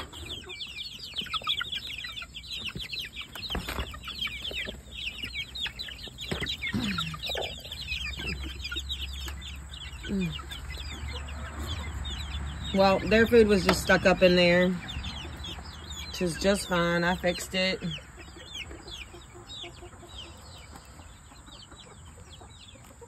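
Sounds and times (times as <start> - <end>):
chicken clucking: 0.0 - 23.0
chicks peeping: 0.0 - 23.0.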